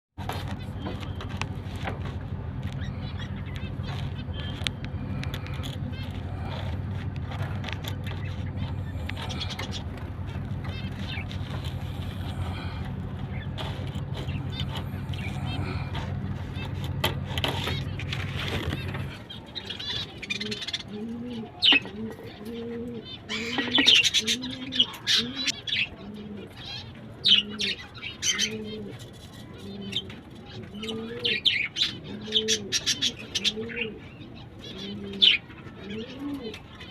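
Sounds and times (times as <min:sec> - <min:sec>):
steady low hum: 0:00.2 - 0:36.9
parrots chirping and chattering: 0:00.3 - 0:36.9
pigeon cooing: 0:05.4 - 0:36.9.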